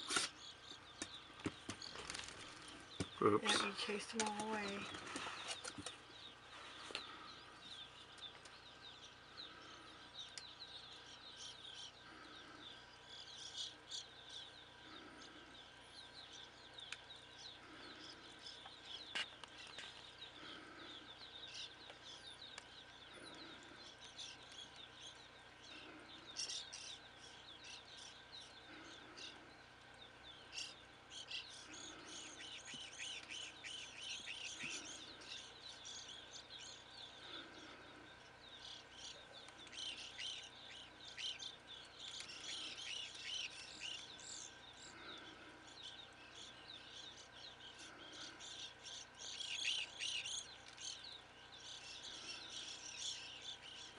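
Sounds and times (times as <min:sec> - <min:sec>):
flock of birds chirping: 0:00.0 - 0:53.9.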